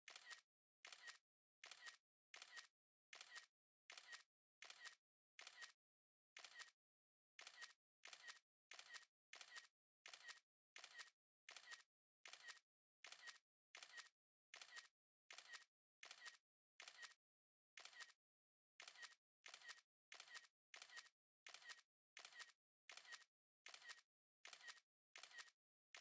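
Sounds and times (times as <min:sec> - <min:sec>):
camera shutter double click: 0:00.1 - 0:05.8, 0:07.4 - 0:17.2, 0:17.8 - 0:18.2, 0:18.8 - 0:26.0.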